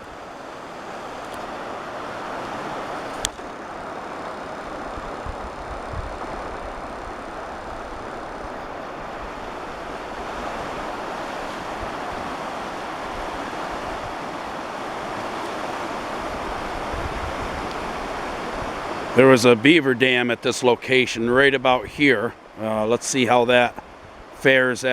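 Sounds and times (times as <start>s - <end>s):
floodwater rushing: 0.0s - 24.9s
wind buffeting microphone: 0.0s - 24.9s.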